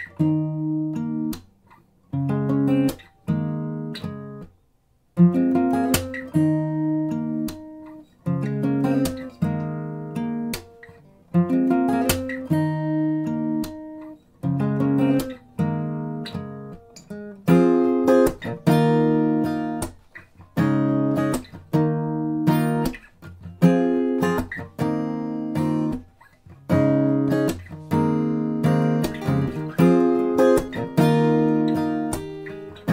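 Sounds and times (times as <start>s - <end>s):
guitar chords plucked: 0.0s - 1.5s, 2.2s - 4.5s, 5.2s - 32.9s.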